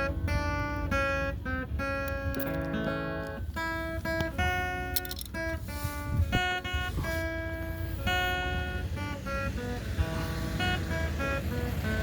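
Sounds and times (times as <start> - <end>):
acoustic guitar plucked melody: 0.0 - 12.0.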